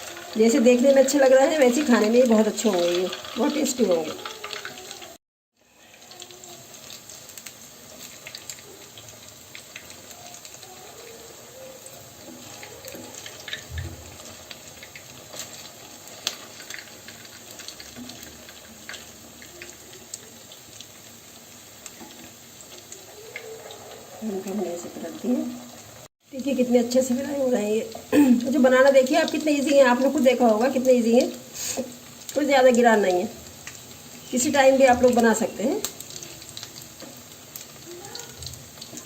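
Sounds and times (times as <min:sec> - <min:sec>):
deep-frying in hot oil sizzle: 0:00.0 - 0:39.0.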